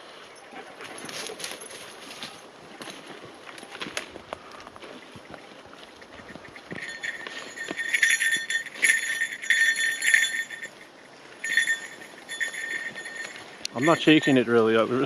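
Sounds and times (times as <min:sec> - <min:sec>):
bear bell jingling: 0:00.3 - 0:03.2, 0:05.4 - 0:15.0.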